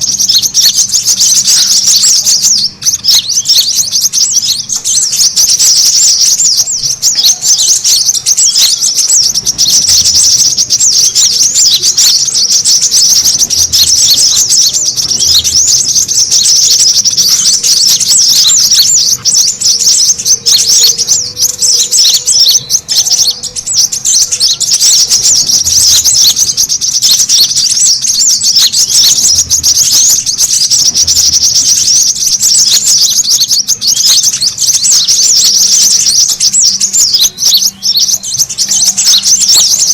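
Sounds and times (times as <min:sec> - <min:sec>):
bird twittering rapidly: 0:00.0 - 0:39.9.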